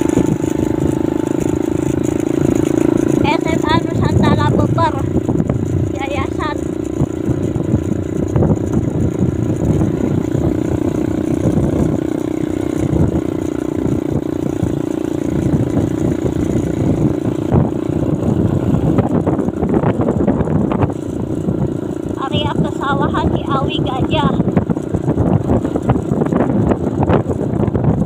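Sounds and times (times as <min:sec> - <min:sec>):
rough low road rumble: 0:00.0 - 0:28.0
vehicle engine drone: 0:00.0 - 0:28.0.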